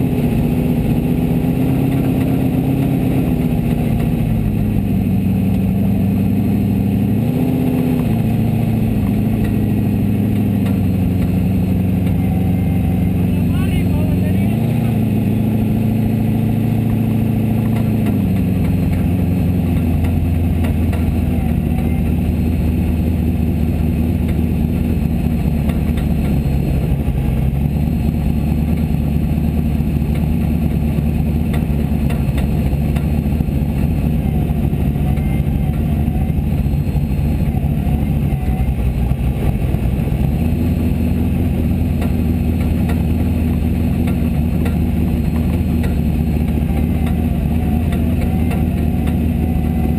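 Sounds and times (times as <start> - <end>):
buggy engine at low revs: 0.0 - 49.9.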